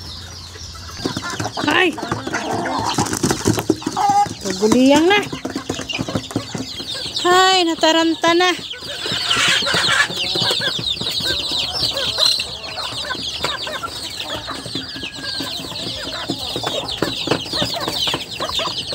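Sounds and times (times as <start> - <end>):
chicks peeping: 0.0 - 18.9.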